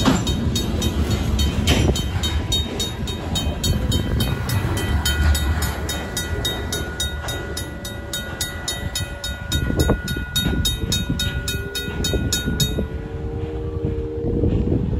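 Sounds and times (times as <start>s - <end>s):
mechanical crossing bell ringing: 0.0s - 13.2s
freight cars rumbling over rails: 0.0s - 14.9s.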